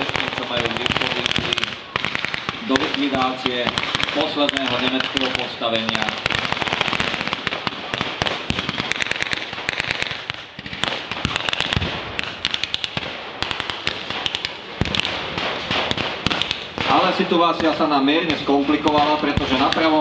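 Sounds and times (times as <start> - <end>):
automatic gunfire: 0.0 - 20.0
rifle gunfire crackle: 0.0 - 20.0.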